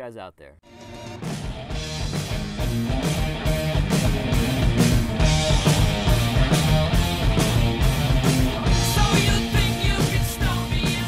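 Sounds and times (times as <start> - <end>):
rock guitar: 0.7 - 11.0
steady drum beat: 1.2 - 11.0.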